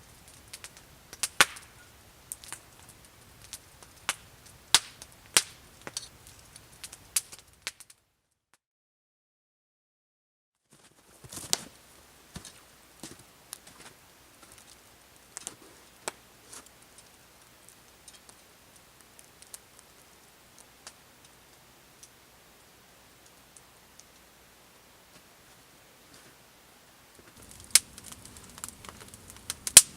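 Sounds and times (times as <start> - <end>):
wood fire crackling: 0.0 - 8.0, 10.8 - 29.9.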